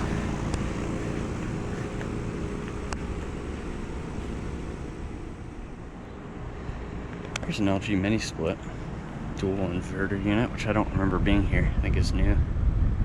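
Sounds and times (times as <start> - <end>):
air conditioner fan whoosh: 0.0 - 13.0
low compressor hum: 0.0 - 13.0.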